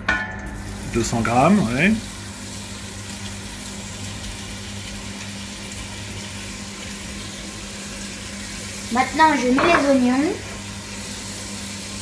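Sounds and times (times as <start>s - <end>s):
bacon sizzling in a pan: 0.4s - 12.0s.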